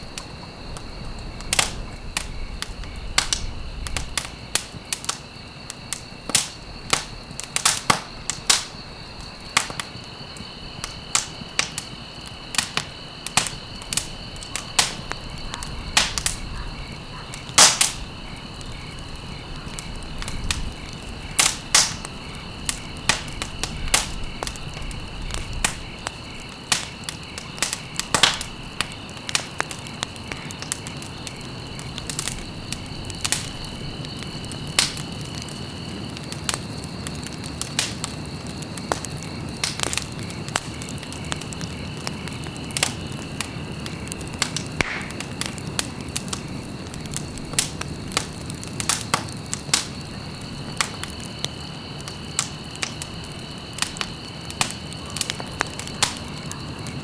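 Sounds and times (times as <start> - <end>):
flames rushing: 0.0 - 57.0
wood fire crackling and popping: 0.0 - 57.0.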